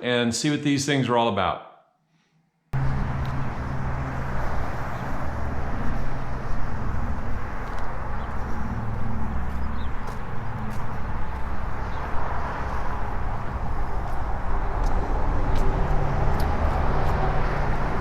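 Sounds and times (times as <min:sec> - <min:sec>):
steady outdoor rumble and hiss: 0:02.8 - 0:18.0.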